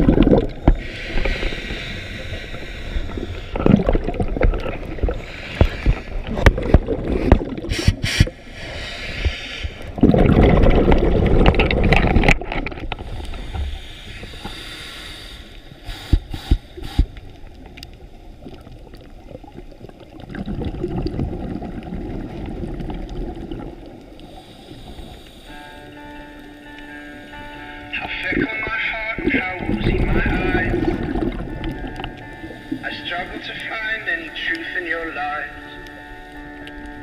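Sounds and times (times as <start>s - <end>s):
muffled underwater rushing: 0.0s - 25.7s, 26.4s - 37.0s.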